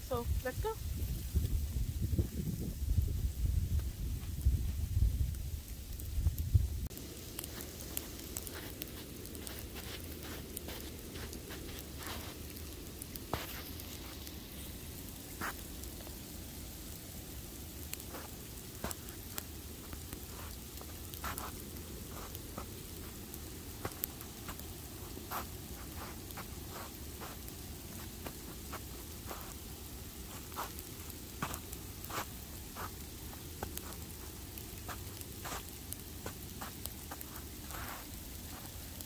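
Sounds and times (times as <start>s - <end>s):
snow pattering on clothing: 0.0s - 39.0s.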